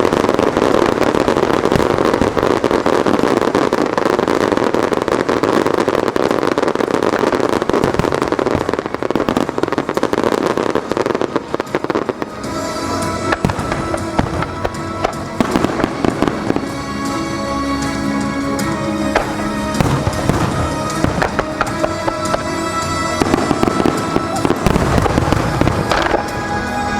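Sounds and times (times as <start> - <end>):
fireworks crackling and bursting: 0.0 - 26.9
fireworks pops and bangs: 0.0 - 26.9
music: 0.0 - 26.9.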